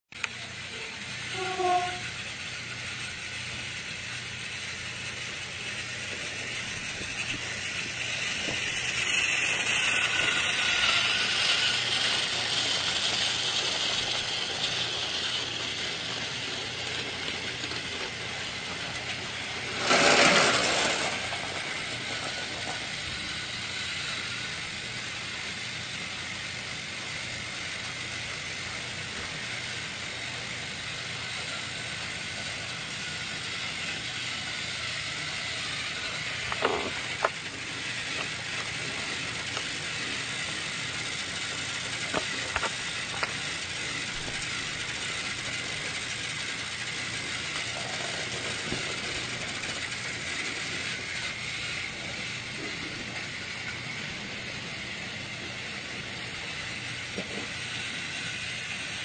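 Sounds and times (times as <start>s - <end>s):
toy train mechanical whir: 0.1s - 59.0s.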